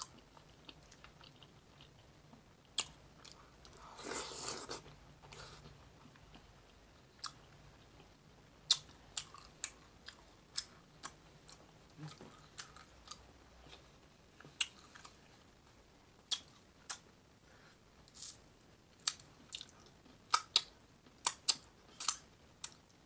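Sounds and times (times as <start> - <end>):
person chewing food: 0.0 - 15.3, 19.0 - 22.9.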